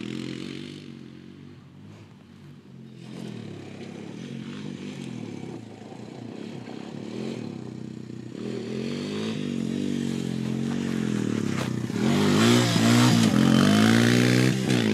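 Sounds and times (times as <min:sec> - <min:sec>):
quad engine revving: 0:00.0 - 0:02.1, 0:02.8 - 0:14.9.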